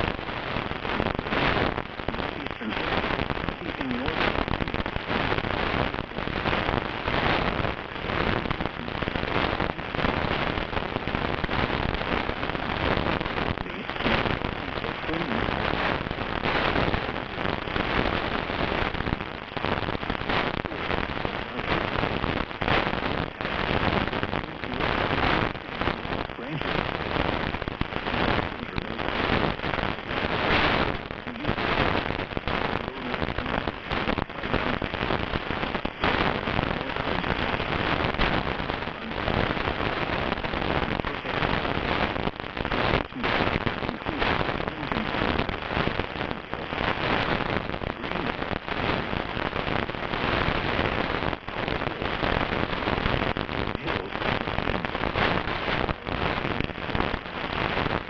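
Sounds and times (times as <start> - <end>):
dense continuous crackling: 0.0 - 58.0.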